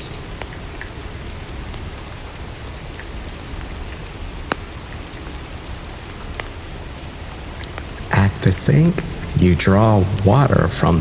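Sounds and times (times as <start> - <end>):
raindrops ticking: 0.0 - 11.0
steady rain hiss: 0.0 - 11.0.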